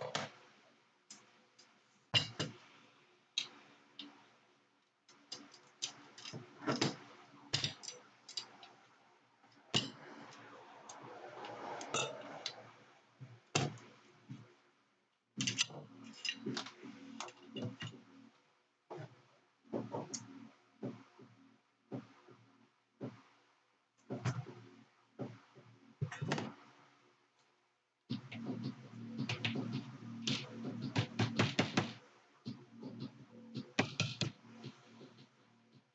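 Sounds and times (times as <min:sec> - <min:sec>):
small parts set on table: 0:00.0 - 0:35.9.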